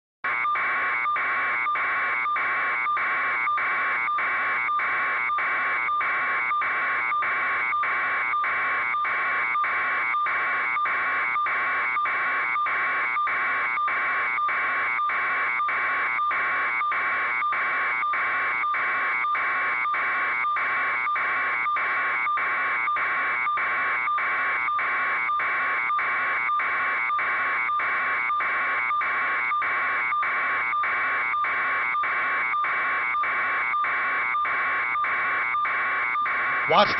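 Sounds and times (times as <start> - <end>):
pulsing alarm buzzer: 0.3 - 36.9.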